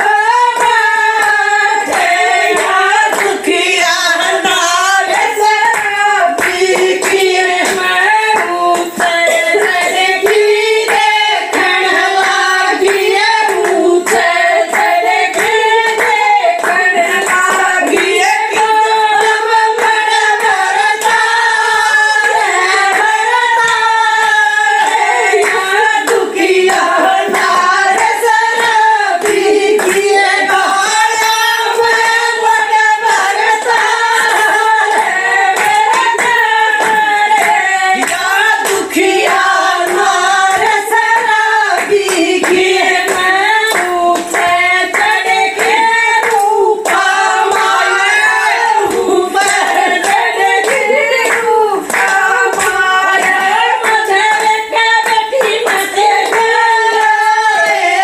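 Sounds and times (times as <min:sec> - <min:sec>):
rhythmic clapping: 0:00.0 - 0:58.0
women singing folk song: 0:00.0 - 0:58.0.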